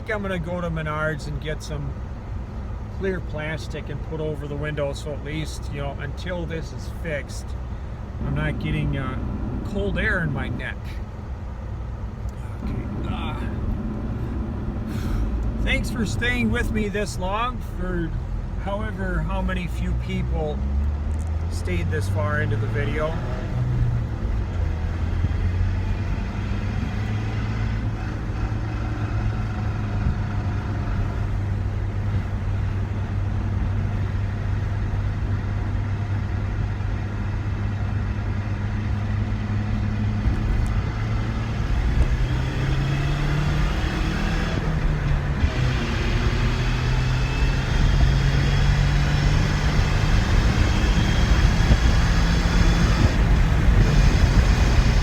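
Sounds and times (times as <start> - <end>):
drivetrain and road drone: 0.0 - 55.0.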